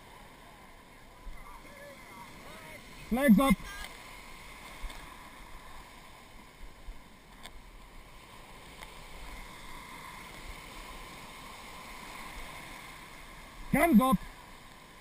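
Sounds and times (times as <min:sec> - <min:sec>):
shallow surf washing and fizzing: 0:00.0 - 0:15.0.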